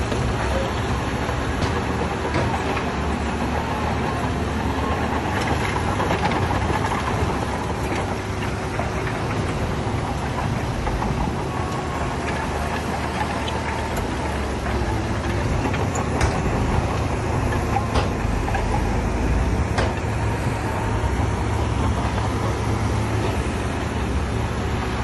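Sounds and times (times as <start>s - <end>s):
diesel machinery engine rumble: 0.0s - 25.0s.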